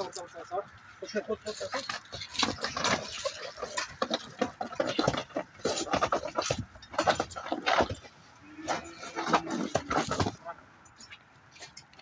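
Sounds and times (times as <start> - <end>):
hooves scuffling on tiled floor: 1.4 - 12.0.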